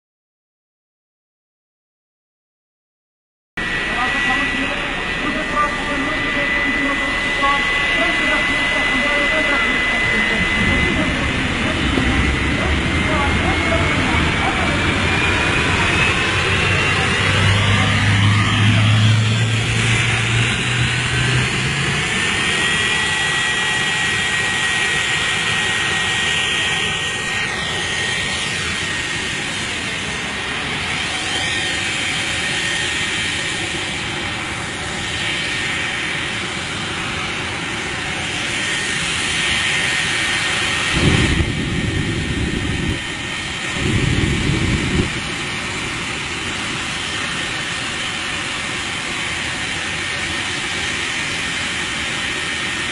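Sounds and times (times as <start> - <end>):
jet turbine engine roaring: 3.6 - 52.9.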